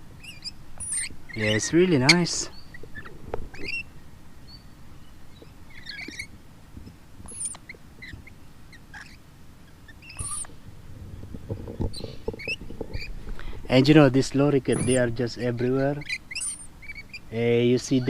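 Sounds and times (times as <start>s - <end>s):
lorikeets calling: 0.0s - 6.4s, 7.2s - 10.6s, 11.5s - 18.0s
faint outdoor background: 0.0s - 18.0s.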